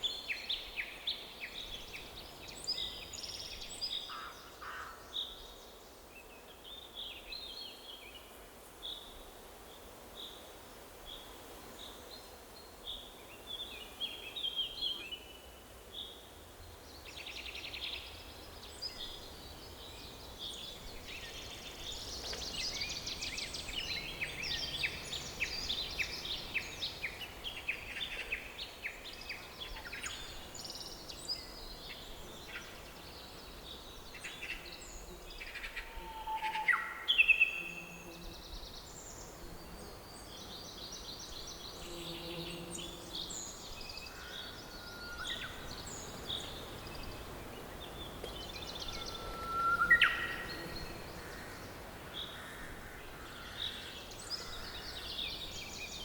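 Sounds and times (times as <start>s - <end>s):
faint steady background hiss: 0.0s - 56.0s
songbirds singing and calling: 11.0s - 56.0s.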